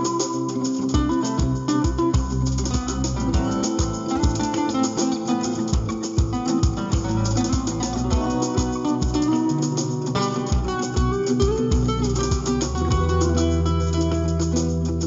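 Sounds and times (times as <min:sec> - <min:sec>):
acoustic guitar fingerstyle melody: 0:00.0 - 0:15.0.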